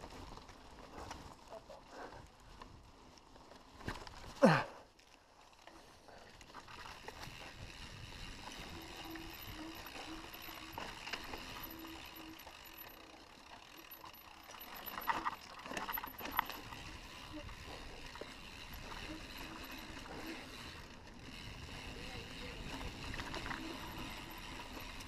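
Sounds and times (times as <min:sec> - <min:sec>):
bike rattles and clicks: 0:00.0 - 0:25.0
bike tyres rolling on dirt: 0:00.0 - 0:25.0.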